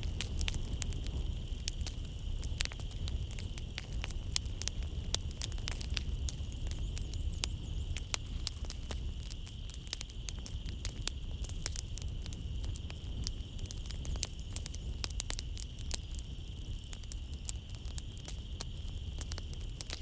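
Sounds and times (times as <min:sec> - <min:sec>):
crickets trilling: 0:00.0 - 0:20.0
wood fire crackling and popping: 0:00.0 - 0:20.0.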